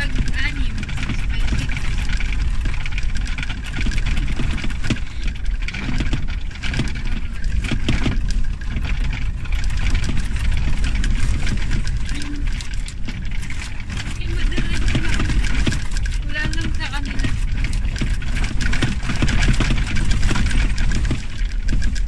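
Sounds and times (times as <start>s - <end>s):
truck tyres and engine rumbling: 0.0s - 22.0s
vehicle rattling and knocking: 0.0s - 22.0s.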